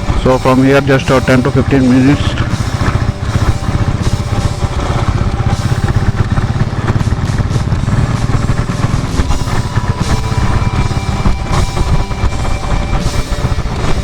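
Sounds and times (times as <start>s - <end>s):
background music: 0.0s - 14.0s
motorcycle engine running: 0.0s - 14.0s.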